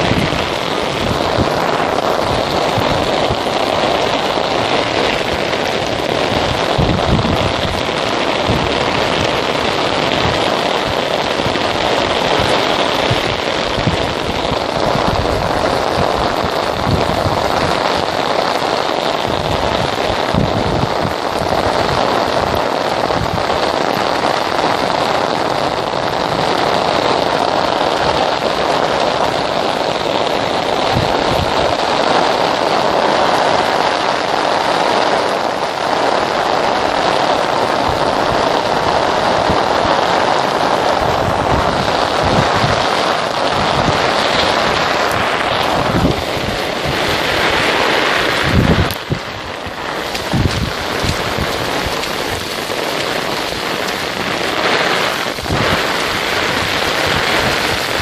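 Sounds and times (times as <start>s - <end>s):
heavy rain on wet road: 0.0s - 58.0s.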